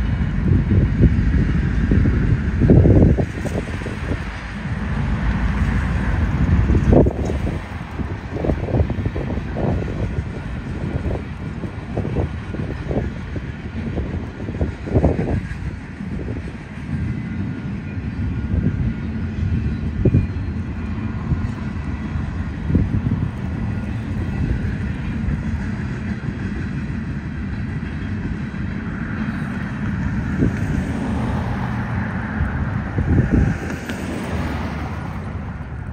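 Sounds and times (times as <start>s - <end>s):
freight cars rumbling on rails: 0.0s - 35.9s.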